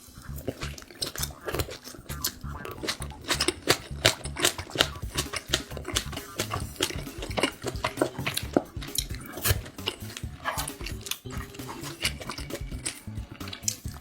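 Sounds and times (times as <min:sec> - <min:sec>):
mouth chewing with wet smacking: 0:00.0 - 0:14.0.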